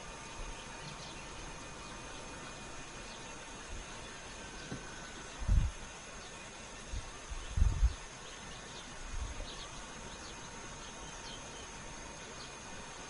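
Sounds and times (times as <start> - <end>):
faint bird chirps: 0.0 - 12.8
steady high hiss: 0.0 - 13.0.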